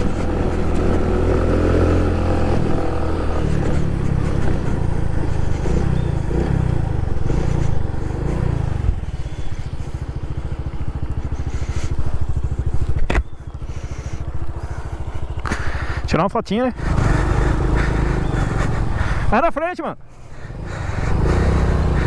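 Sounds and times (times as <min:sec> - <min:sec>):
motorcycle engine revving: 0:00.0 - 0:19.4, 0:20.0 - 0:22.0
motorcycle engine idling: 0:00.0 - 0:22.0.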